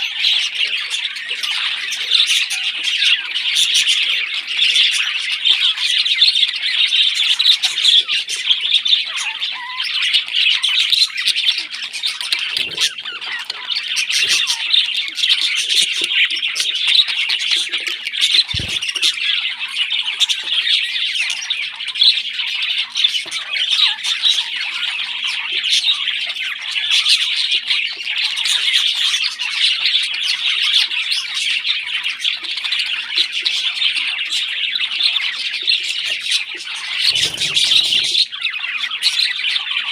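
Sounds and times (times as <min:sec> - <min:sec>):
parrot chicks squawking: 0:00.0 - 0:39.9.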